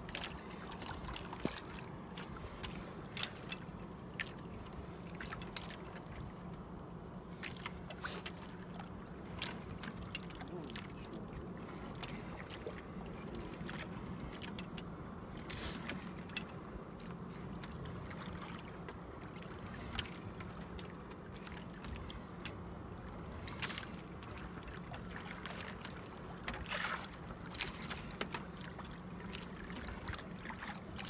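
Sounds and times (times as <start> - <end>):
water slapping against boat hull: 0.0 - 6.6, 7.3 - 31.0
knocks and clicks from boat: 0.0 - 31.0.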